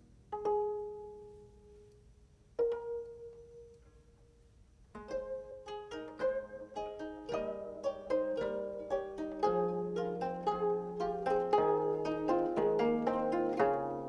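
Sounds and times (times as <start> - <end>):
plucked zither notes: 0.0 - 1.8, 2.6 - 4.0, 4.9 - 14.0.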